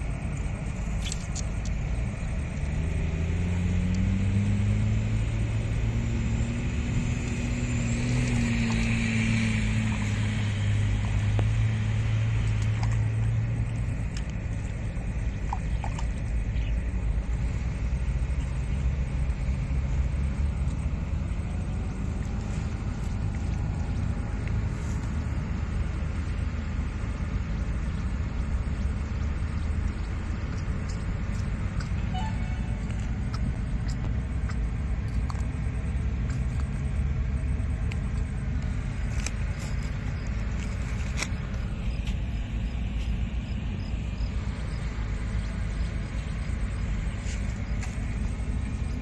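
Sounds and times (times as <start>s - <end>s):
engine hum with rumble: 0.0s - 49.0s.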